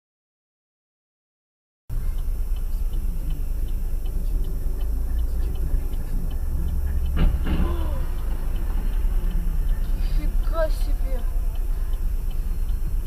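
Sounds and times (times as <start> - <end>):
road and engine rumble: 1.9 - 13.0.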